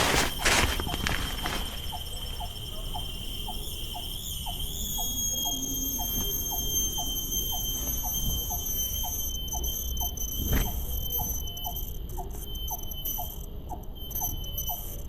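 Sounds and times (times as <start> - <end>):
insects high-pitched drone: 0.0 - 15.0
low insect chirp: 0.0 - 15.0.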